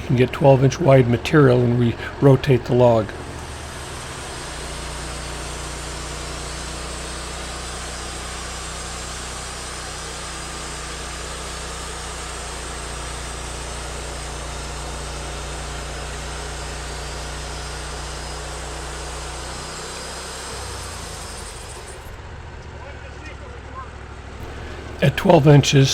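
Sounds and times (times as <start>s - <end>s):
saw blade cutting log: 0.0s - 22.2s
sawmill engine droning: 0.0s - 25.9s.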